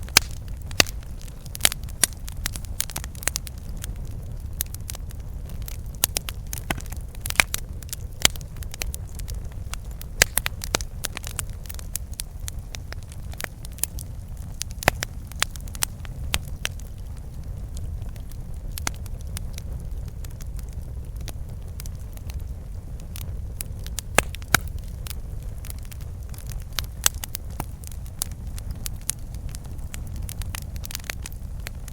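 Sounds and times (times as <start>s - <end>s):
low rumble of flames: 0.0s - 31.9s
wood crackling and popping: 0.0s - 31.9s.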